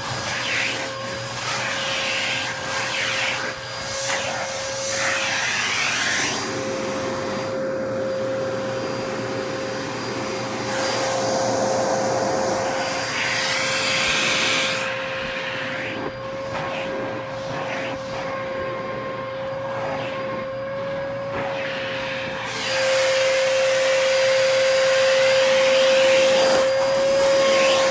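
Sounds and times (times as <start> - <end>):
vacuum cleaner on carpet: 0.0 - 27.9.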